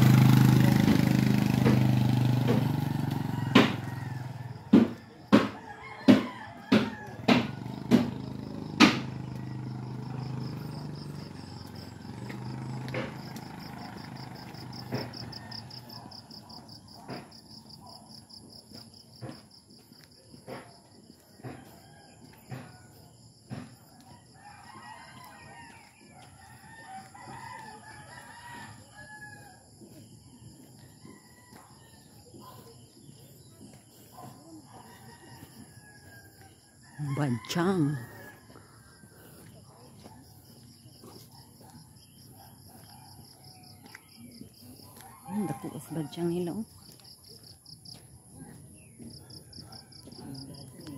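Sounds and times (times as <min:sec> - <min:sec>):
rooster crowing: 0:00.1 - 0:18.2, 0:20.9 - 0:47.1, 0:48.8 - 0:50.9
footsteps tapping: 0:00.6 - 0:50.9.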